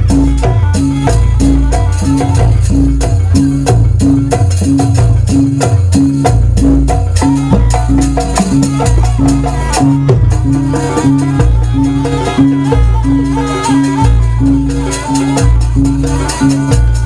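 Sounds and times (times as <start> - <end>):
gamelan music with drums and gongs: 0.0 - 17.0.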